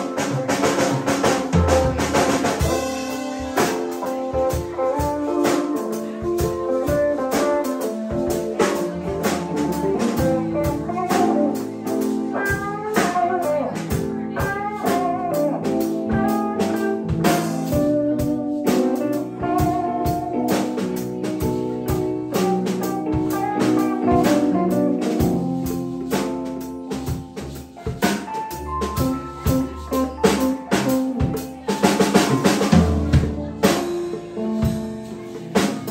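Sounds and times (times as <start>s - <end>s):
guitar bending notes: 0.0s - 35.9s
live blues band playing: 0.0s - 35.9s.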